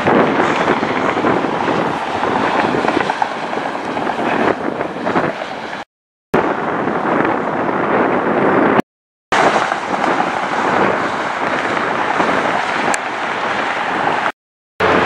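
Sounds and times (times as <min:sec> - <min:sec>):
wind buffeting microphone: 0:00.0 - 0:08.8, 0:09.4 - 0:15.0
jet engines roaring: 0:00.0 - 0:15.0.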